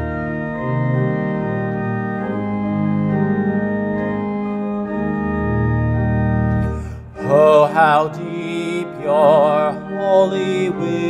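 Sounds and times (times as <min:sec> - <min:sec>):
organ playing held chords: 0:00.0 - 0:11.0.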